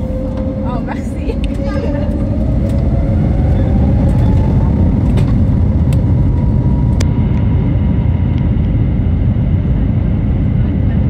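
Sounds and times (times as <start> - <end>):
aircraft rolling rumble: 0.0 - 11.0
jet engines spooling up: 0.0 - 11.0.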